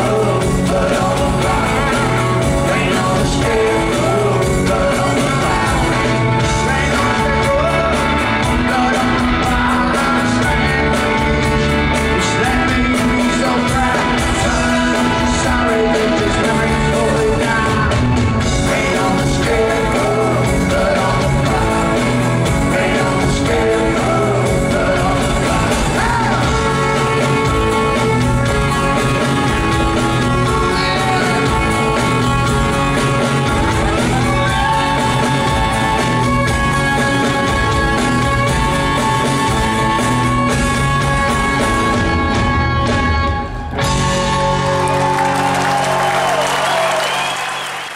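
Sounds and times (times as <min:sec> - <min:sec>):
man singing: 0:00.0 - 0:43.1
live rock band playing: 0:00.0 - 0:47.9.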